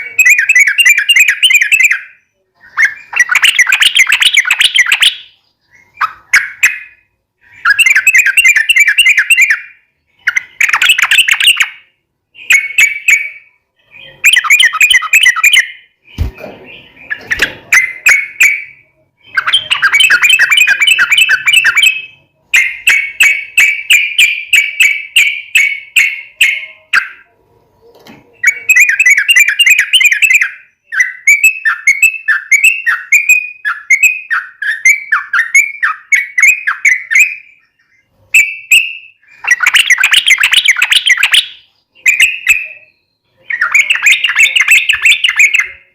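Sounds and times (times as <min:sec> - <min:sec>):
bird song bubbly chattering: 0:00.0 - 0:27.3, 0:28.4 - 0:45.9
bird chirps: 0:00.0 - 0:45.9.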